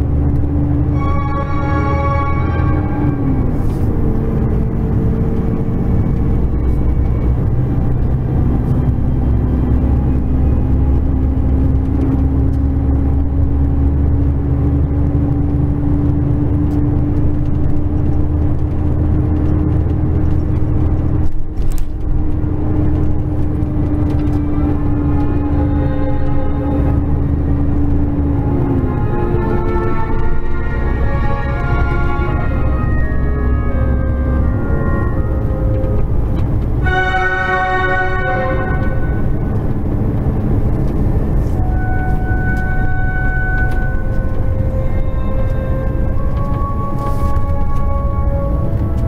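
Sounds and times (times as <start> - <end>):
drivetrain whine: 0.0 - 49.0
truck engine droning: 0.0 - 49.0.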